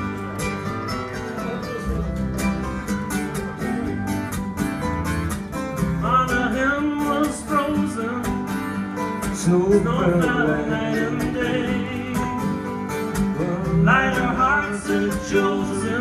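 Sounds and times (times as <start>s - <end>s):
strummed guitars and mandolins: 0.0s - 16.0s
upright bass: 0.0s - 16.0s.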